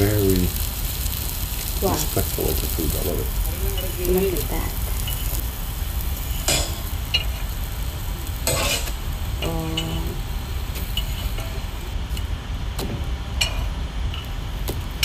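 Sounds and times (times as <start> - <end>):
omelettes sizzling faintly: 0.0 - 12.3.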